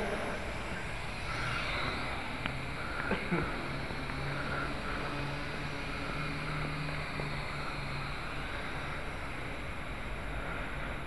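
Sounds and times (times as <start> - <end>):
low hum: 0.0 - 11.0
quadcopter motors buzzing: 0.0 - 11.0.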